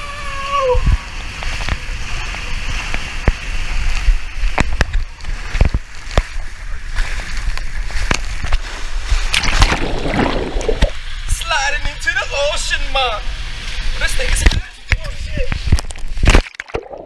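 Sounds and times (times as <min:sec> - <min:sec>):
water rushing down slide: 0:00.0 - 0:17.0.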